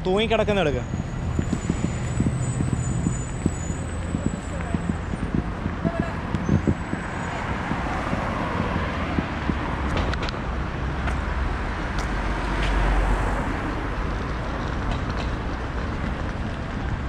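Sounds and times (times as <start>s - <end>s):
tyres on road: 0.0s - 17.0s
vehicle engines: 0.0s - 17.0s.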